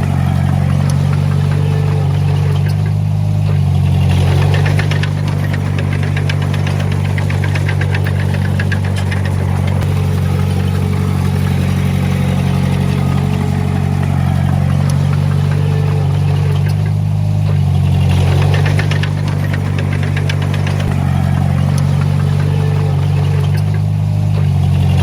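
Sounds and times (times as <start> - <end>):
heavy diesel engine running: 0.0 - 25.0
rapid metallic clatter: 0.0 - 25.0.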